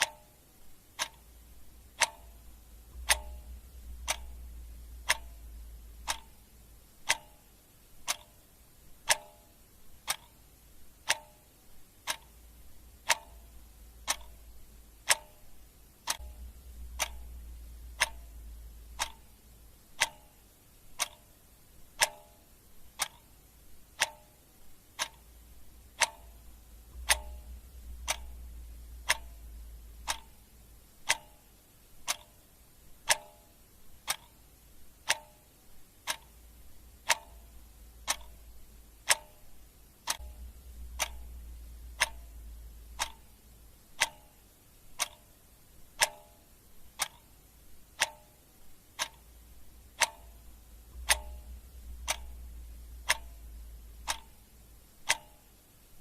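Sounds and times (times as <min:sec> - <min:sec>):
clock ticking: 0:00.0 - 0:56.0
faint low hum: 0:00.0 - 0:56.0.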